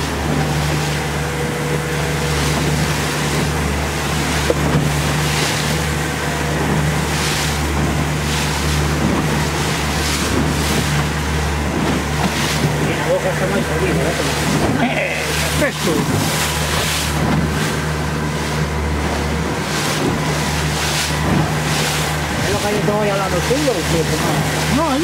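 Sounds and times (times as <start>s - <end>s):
outboard motor humming: 0.0s - 25.0s
water rushing against hull: 0.0s - 25.0s
wind buffeting microphone: 0.0s - 25.0s.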